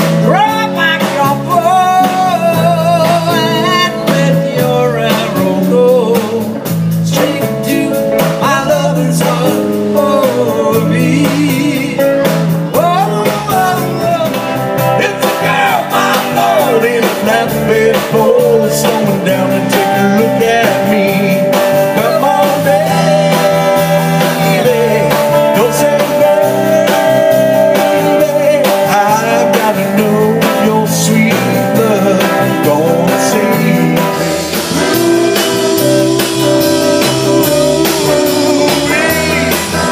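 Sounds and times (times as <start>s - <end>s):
electric guitar lead bending: 0.0s - 39.9s
live rock band playing: 0.0s - 39.9s.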